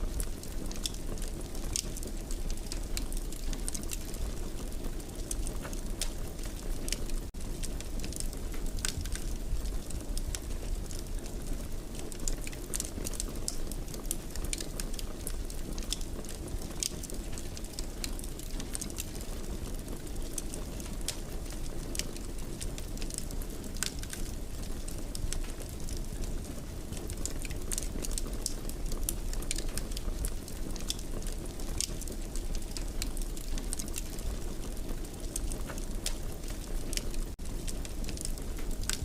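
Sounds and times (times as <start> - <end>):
fire crackling and popping: 0.0 - 39.0
low rumble of flames: 0.0 - 39.0.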